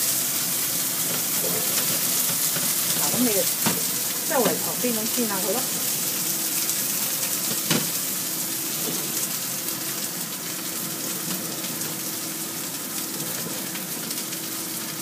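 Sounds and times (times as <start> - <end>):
noodles sizzling in wok: 0.0 - 15.0.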